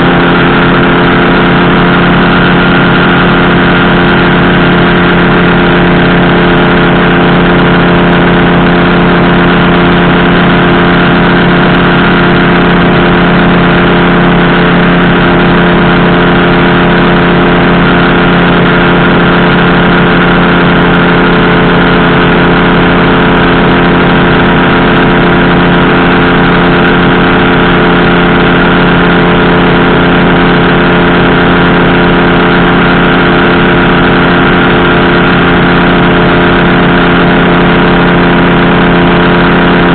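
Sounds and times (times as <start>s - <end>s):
powered parachute engine droning: 0.0s - 39.9s.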